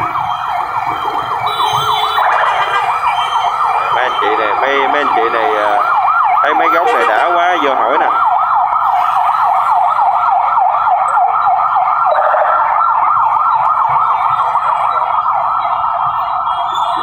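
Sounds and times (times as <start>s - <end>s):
electronic siren yelping: 0.0s - 17.0s.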